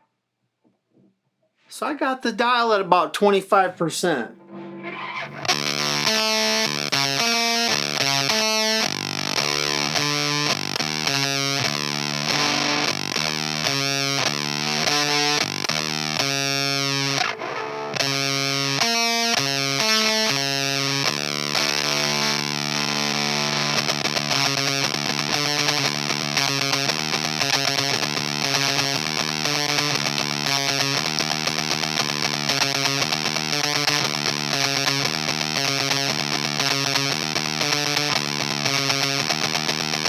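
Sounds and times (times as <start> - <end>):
fuzzed electric guitar riff: 1.7 - 40.0.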